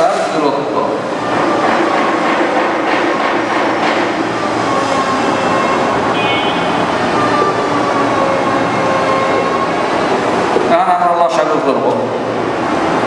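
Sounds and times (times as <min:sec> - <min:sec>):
loud background noise: 0:00.0 - 0:13.0.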